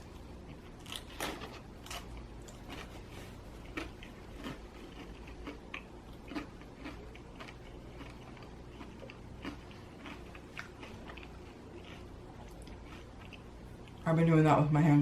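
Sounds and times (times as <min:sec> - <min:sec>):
person chewing crispy crust: 0:00.0 - 0:14.0.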